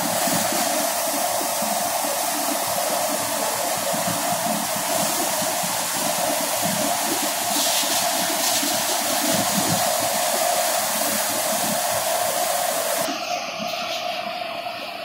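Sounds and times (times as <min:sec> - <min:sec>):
straw and grain rushing: 0:00.0 - 0:13.1
threshing machine whirring drone: 0:00.0 - 0:15.0.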